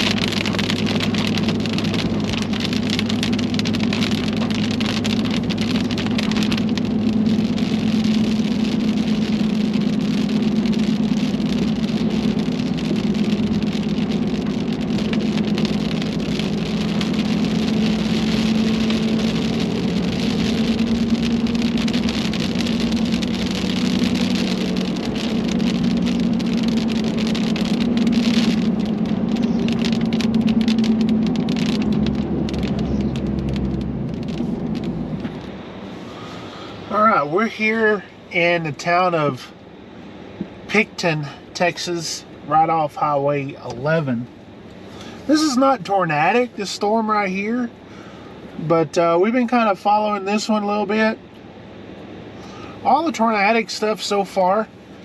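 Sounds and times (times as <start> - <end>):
car engine and tyres humming: 0.0 - 55.0
rain pattering on car roof: 0.0 - 55.0.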